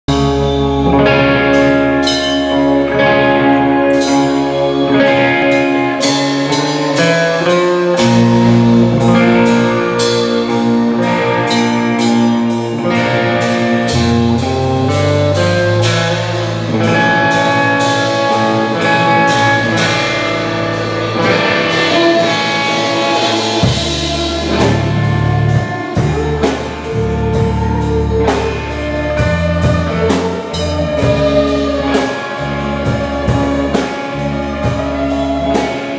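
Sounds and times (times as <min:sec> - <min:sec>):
live rock band playing: 0:00.1 - 0:35.9.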